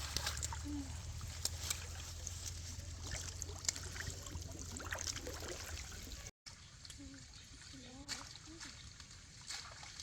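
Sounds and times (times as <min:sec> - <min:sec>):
water trickling and sloshing: 0:00.0 - 0:10.0.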